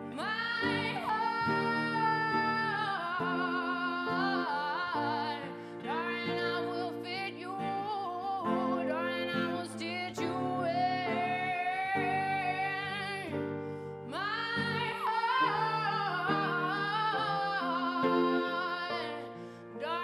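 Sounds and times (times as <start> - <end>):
guitar accompaniment: 0.0 - 20.0
woman singing with vibrato: 0.0 - 20.0.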